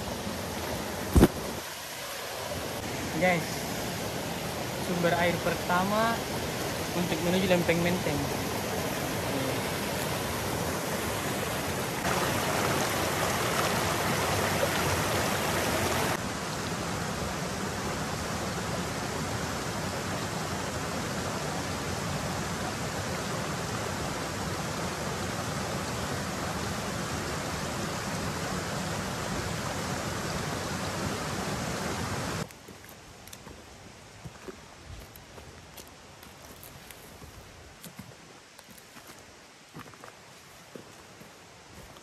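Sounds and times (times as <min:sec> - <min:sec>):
stream cascading over rocks: 0:00.0 - 0:42.0.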